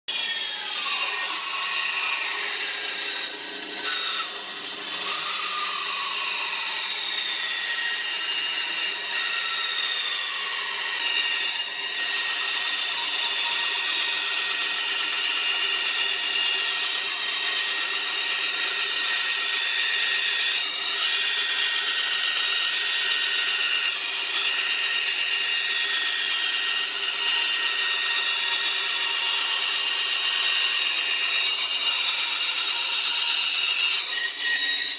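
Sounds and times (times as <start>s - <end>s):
bandsaw cutting metal: 0.1s - 34.9s.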